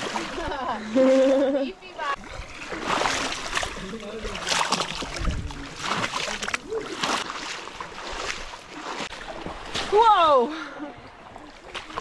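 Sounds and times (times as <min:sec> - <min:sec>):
legs wading through water: 0:00.0 - 0:12.0.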